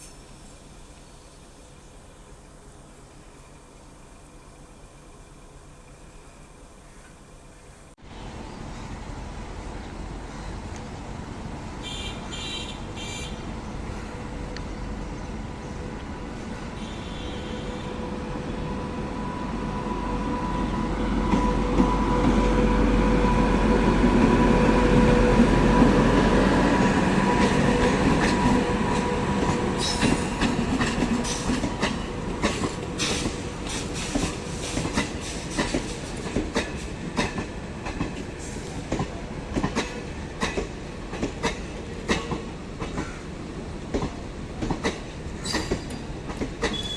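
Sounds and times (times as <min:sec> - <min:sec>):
train passing with whine: 0:00.0 - 0:46.9.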